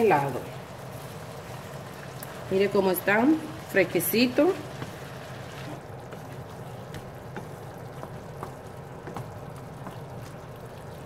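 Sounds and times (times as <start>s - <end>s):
food simmering in a frying pan: 0.0s - 11.0s.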